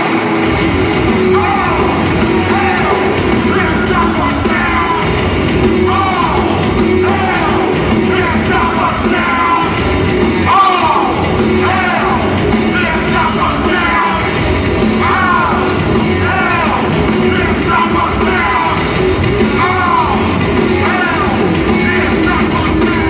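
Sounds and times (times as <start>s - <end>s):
bass: 0.0s - 23.0s
distorted guitar: 0.0s - 23.0s
drums: 0.0s - 23.0s
shouted vocals: 1.0s - 23.0s.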